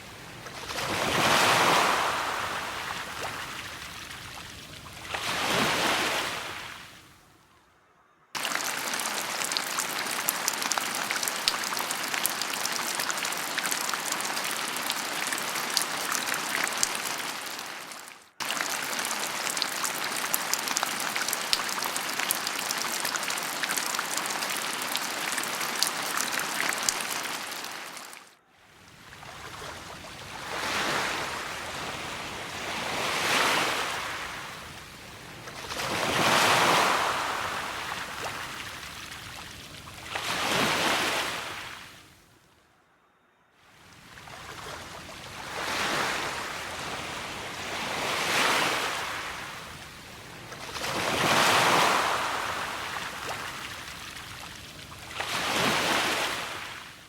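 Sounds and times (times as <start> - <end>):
rushing water hiss: 0.0 - 7.1, 8.4 - 28.3, 30.3 - 39.4, 45.4 - 56.8
ocean waves: 0.0 - 42.9, 43.6 - 57.0.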